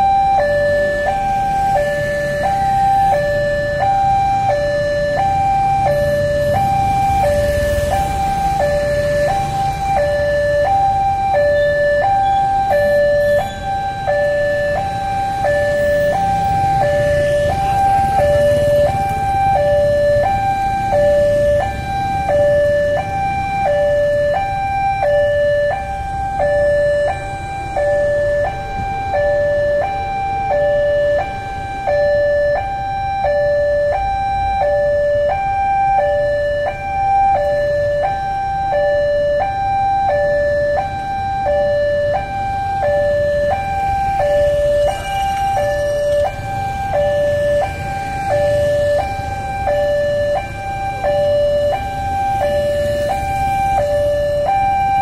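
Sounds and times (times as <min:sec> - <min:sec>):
two-tone level crossing siren: 0:00.0 - 0:55.0.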